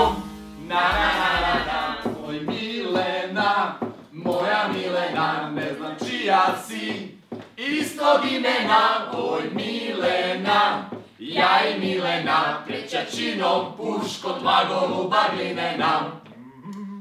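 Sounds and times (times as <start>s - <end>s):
mixed choir singing: 0.0s - 16.2s.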